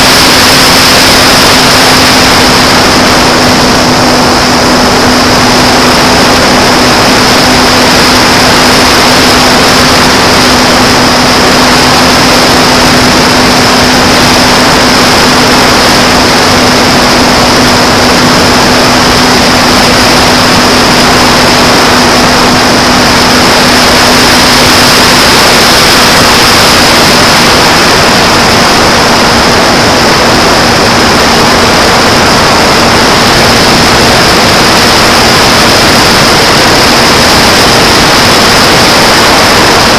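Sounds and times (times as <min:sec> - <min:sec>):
electric motor and propeller whine: 0:00.0 - 0:39.9
rushing airflow noise: 0:00.0 - 0:39.9.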